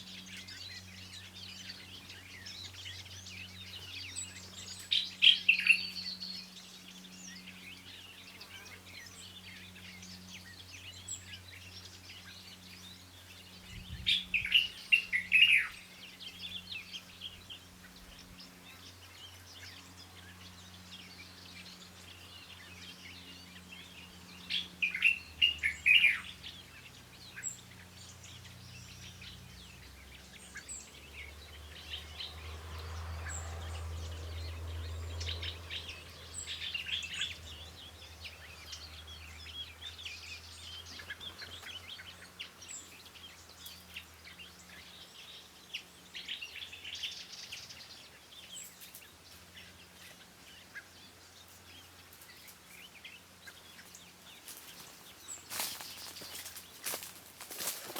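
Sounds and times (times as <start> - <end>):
birds chirping and singing: 0.0 - 57.9.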